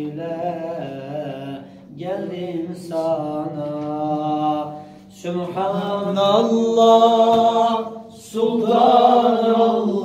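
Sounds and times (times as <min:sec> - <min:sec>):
man singing unaccompanied hymn: 0:00.0 - 0:10.0.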